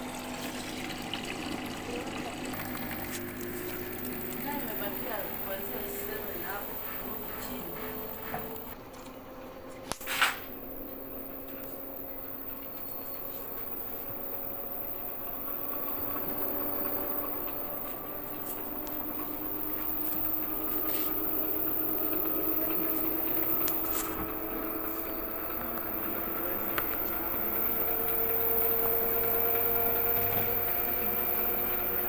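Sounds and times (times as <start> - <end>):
washing machine spinning whine: 0.0 - 32.0.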